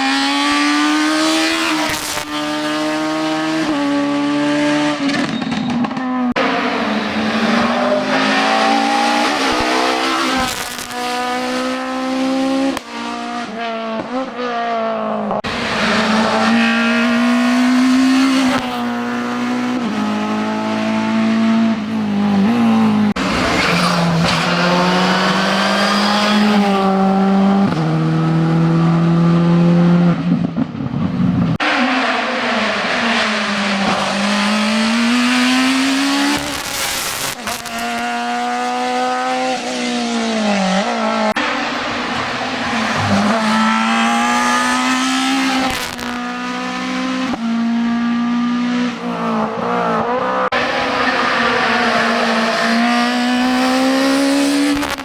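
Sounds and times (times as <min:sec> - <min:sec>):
racing cars accelerating: 0:00.0 - 0:55.0.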